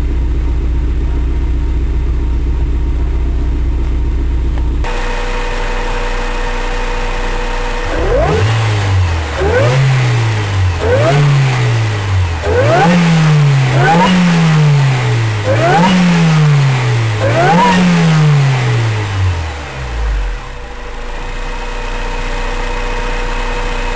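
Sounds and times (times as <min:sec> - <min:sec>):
supercharger whine: 0:00.0 - 0:23.9
car engine revving: 0:04.5 - 0:23.9.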